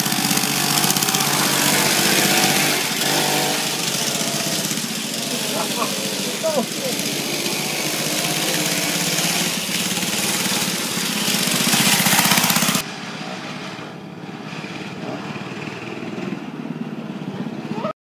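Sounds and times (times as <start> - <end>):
farther mini bike engine: 0.0 - 16.7
mini bike engine puttering: 0.0 - 16.8.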